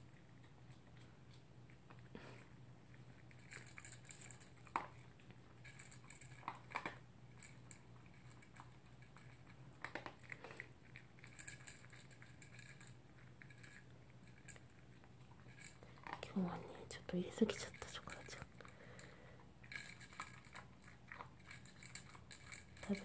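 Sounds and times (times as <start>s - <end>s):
dog chewing: 0.0s - 23.0s.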